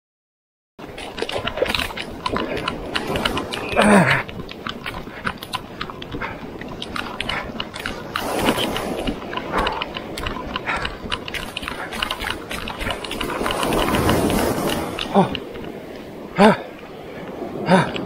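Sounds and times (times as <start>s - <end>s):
footsteps on wet sand: 0.8s - 18.0s
surf breaking: 0.8s - 18.0s.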